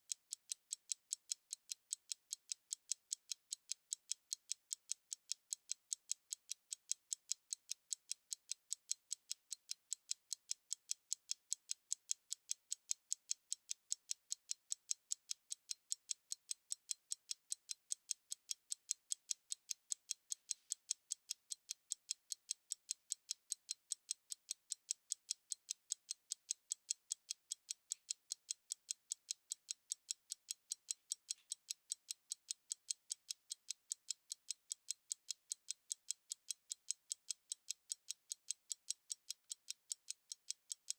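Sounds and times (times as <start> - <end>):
stopwatch ticking: 0.0 - 40.9.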